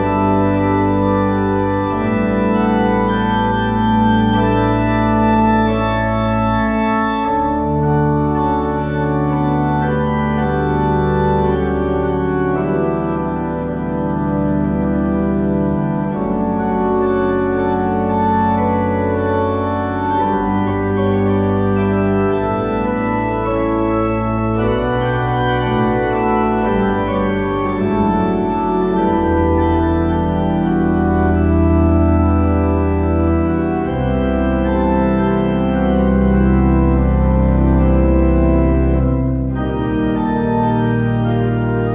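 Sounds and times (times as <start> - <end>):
church organ playing chords: 0.0 - 41.9.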